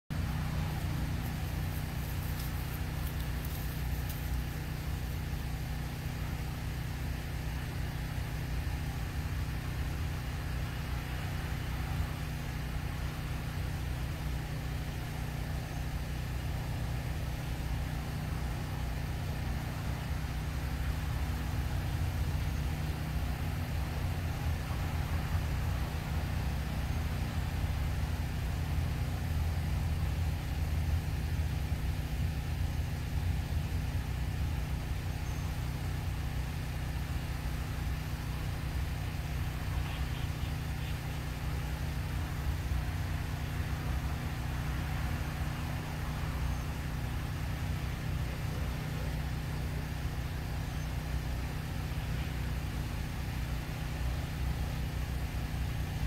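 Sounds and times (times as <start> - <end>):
low rumble with hum: 0.1 - 56.0.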